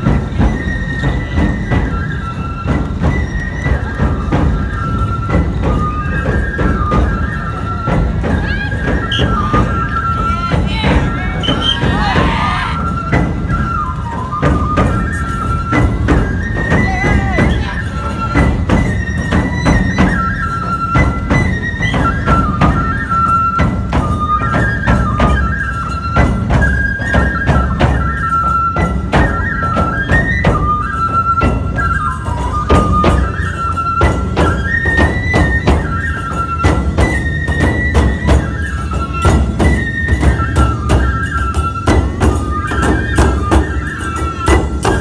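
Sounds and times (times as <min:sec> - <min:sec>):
bamboo flute melody: 0:00.0 - 0:45.0
taiko drumming: 0:00.0 - 0:45.0.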